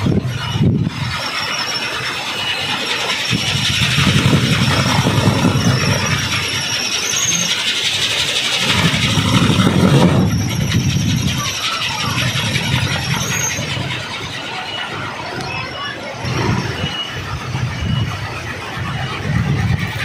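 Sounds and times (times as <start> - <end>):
windmill propeller whirring: 0.0 - 20.0.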